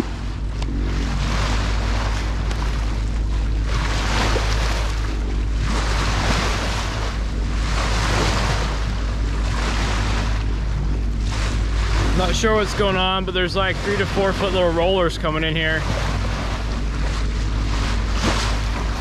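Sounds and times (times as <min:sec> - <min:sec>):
low drone: 0:00.0 - 0:19.0
water rushing along a boat bow: 0:00.0 - 0:19.0
wind on microphone: 0:00.0 - 0:19.0.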